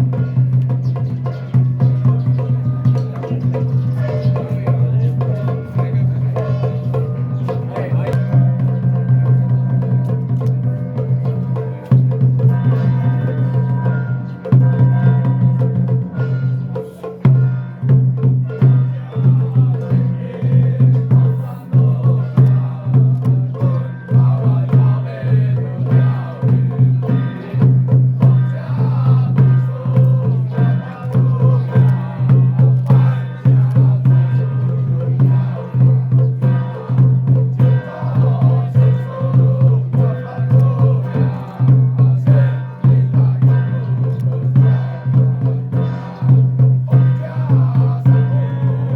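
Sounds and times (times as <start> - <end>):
drum beaten in steady rhythm: 0.0 - 48.9.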